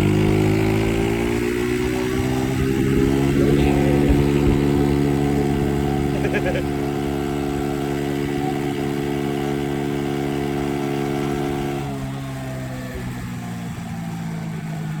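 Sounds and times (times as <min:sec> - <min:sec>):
moped engine running: 0:00.0 - 0:15.0.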